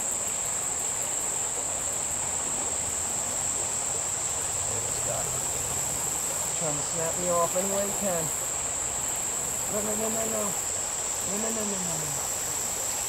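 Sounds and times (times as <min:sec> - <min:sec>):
insects singing: 0:00.0 - 0:13.0
stream water rushing: 0:00.0 - 0:13.0.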